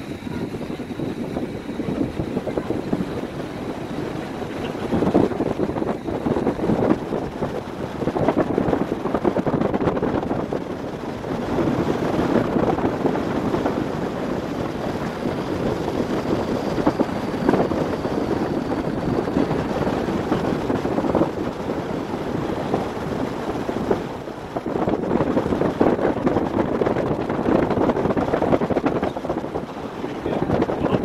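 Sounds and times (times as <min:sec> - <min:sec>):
river boat running: 0:00.0 - 0:31.0
wind buffeting microphone: 0:00.0 - 0:31.0.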